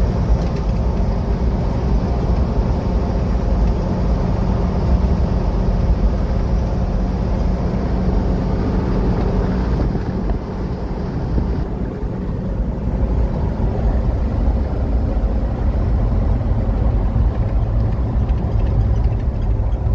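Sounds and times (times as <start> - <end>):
truck engine and road noise: 0.0 - 19.9.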